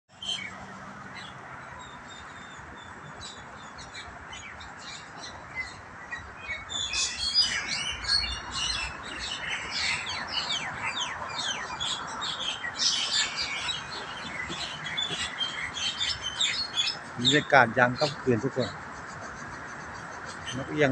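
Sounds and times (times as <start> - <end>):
birds calling and squabbling: 0.1 - 20.9.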